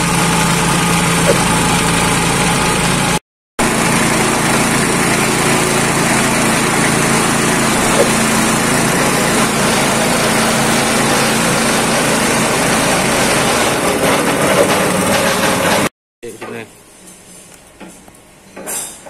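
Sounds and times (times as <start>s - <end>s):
small petrol engine running: 0.0s - 15.9s.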